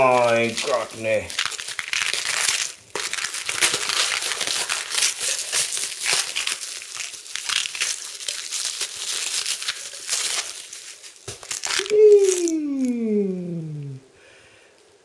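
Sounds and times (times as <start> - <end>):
plastic wrap crinkling and crackling: 0.0 - 14.0.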